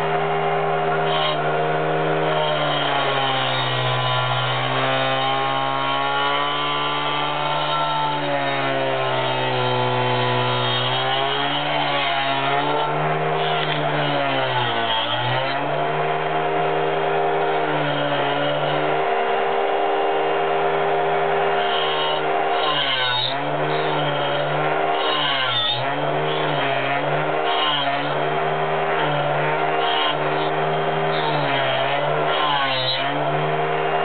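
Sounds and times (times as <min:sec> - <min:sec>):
angle grinder cutting wood: 0:00.0 - 0:34.0.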